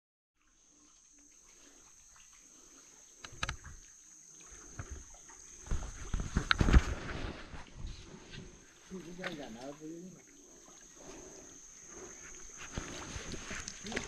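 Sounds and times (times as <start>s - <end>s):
water sloshing and splashing: 0.4s - 14.0s.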